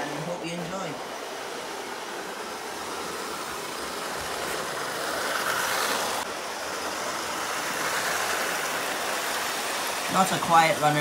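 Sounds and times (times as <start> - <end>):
model train whirring rattle: 1.1 - 11.0.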